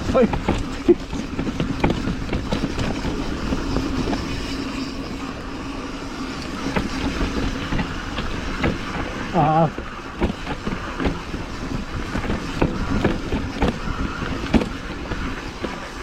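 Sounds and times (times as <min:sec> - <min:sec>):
bike rattling and knocking: 0:00.0 - 0:16.0
tyre and wind noise: 0:00.0 - 0:16.0.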